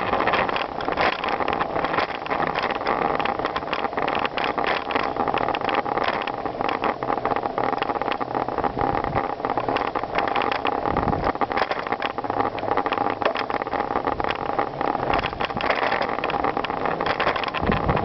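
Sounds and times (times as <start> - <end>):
bicycle tyres rolling on gravel: 0.0 - 18.0
bike rattling and clicking: 0.0 - 18.0.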